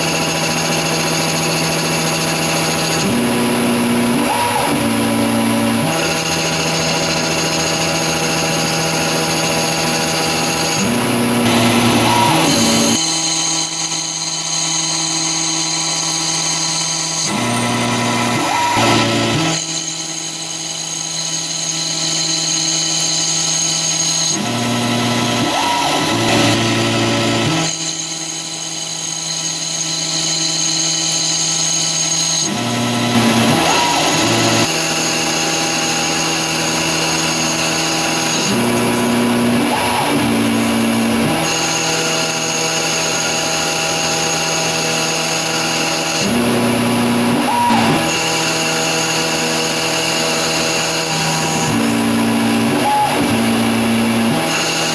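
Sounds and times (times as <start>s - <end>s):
lathe machine whine: 0.0s - 54.9s.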